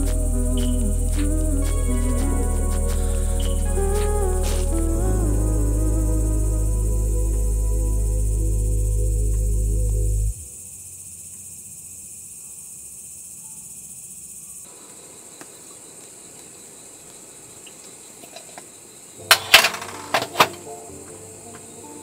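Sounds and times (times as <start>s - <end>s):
insect chirring: 0.0s - 19.2s.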